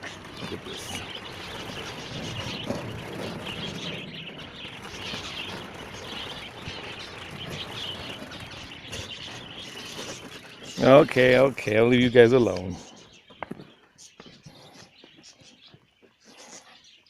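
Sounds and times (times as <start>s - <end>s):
finches chattering and chirping: 0.0s - 17.0s.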